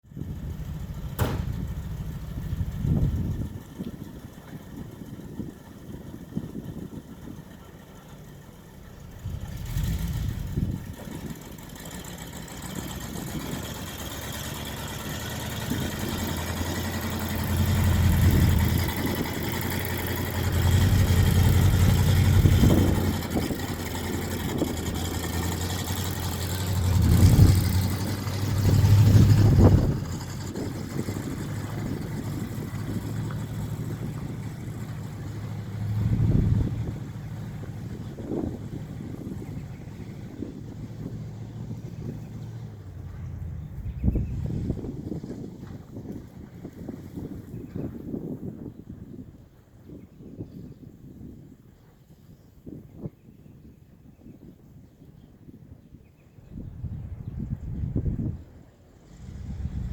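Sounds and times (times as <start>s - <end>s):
truck engine pulling away: 0.0s - 48.6s, 56.9s - 59.9s.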